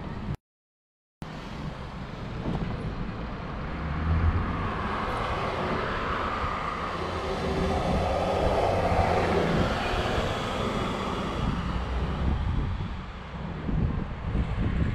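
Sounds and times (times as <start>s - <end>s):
street traffic: 0.0s - 0.4s, 1.2s - 14.9s
low engine hum: 1.3s - 14.9s.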